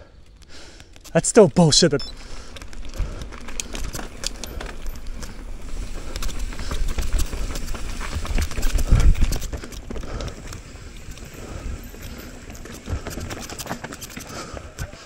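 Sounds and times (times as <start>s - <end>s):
bike rattling over rocks: 0.2s - 15.0s.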